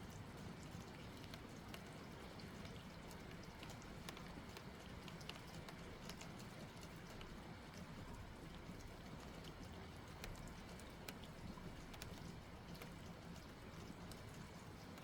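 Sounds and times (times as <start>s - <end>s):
light rain: 0.0s - 15.0s
raindrops ticking on surfaces: 0.0s - 15.0s.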